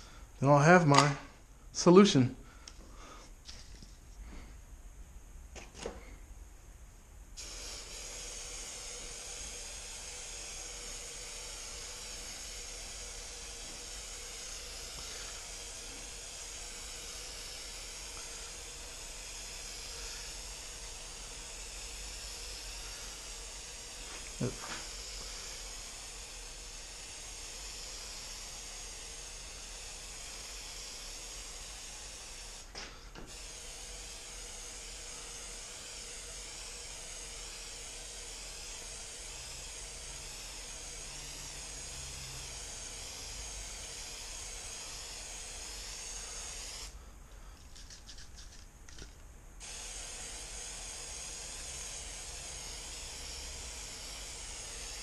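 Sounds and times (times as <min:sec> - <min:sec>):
aerosol can spraying: 0:07.4 - 0:55.0.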